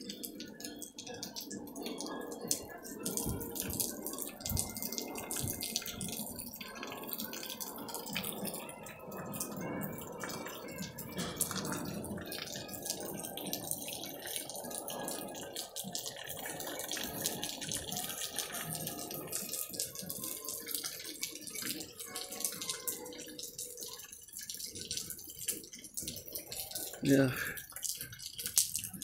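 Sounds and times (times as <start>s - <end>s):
drips pattering on wet concrete: 0.0s - 29.0s
steady rain falling: 0.0s - 29.0s.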